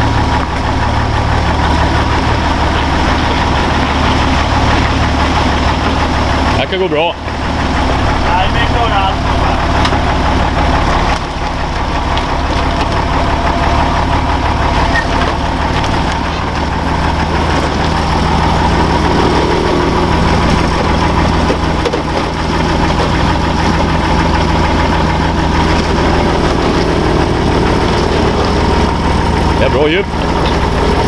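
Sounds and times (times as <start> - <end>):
vehicle engine running at low revs: 0.0 - 31.0.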